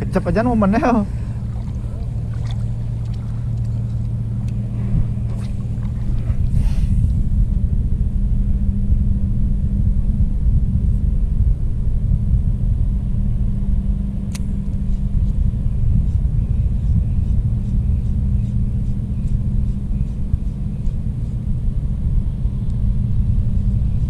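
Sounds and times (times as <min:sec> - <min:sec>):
machine rumble and hum: 0:00.0 - 0:24.0.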